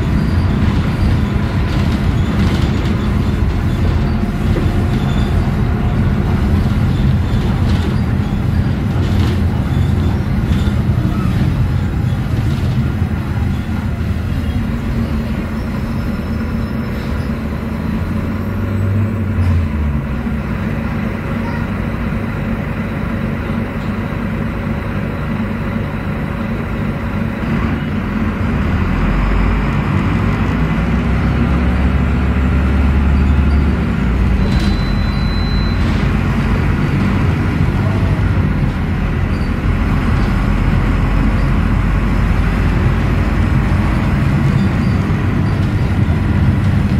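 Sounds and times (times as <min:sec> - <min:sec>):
bus engine from inside: 0:00.0 - 0:46.9.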